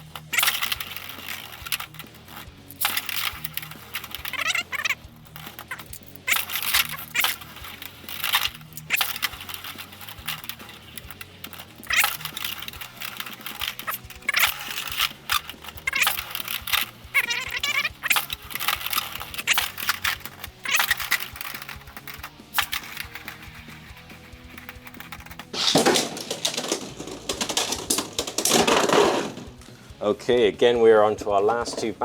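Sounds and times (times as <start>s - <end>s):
spinning tops clashing: 0.0s - 29.7s
background music: 0.0s - 32.0s.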